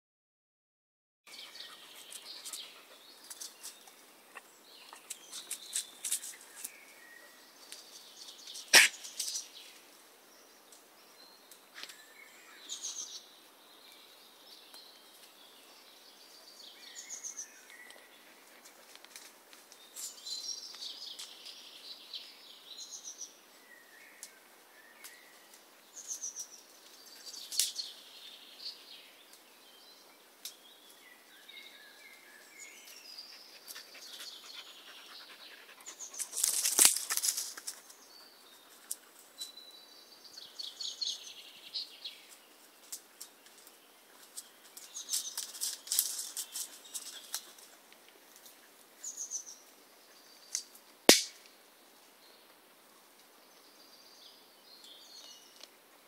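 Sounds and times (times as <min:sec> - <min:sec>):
birds chirping: 0:01.3 - 0:18.9, 0:19.7 - 0:50.8.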